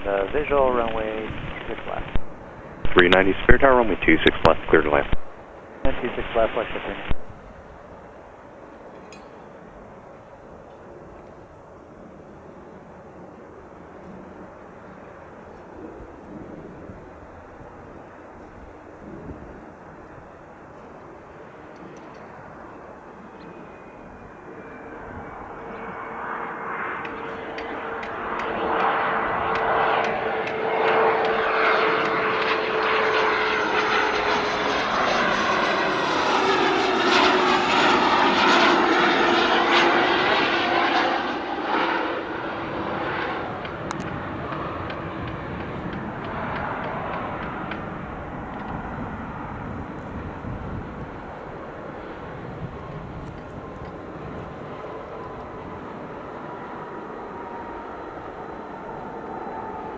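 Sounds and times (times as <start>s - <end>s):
jet engines passing: 0.0s - 8.8s, 13.1s - 59.9s.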